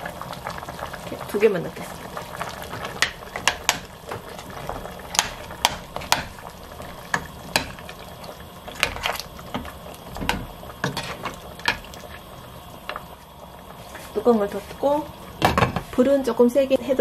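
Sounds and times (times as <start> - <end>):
low bubbling simmer: 0.0 - 16.8.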